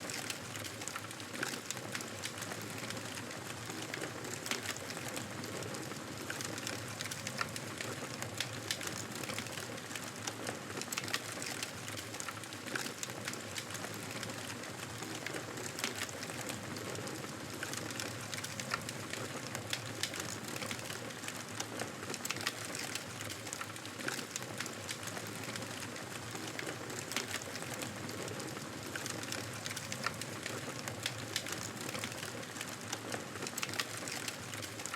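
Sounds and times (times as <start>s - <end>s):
campfire crackling and popping: 6.2s - 34.9s.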